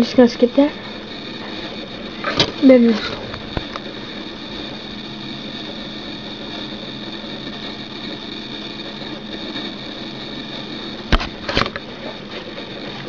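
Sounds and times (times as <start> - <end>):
computer mechanical hum with whine: 0.0 - 13.0.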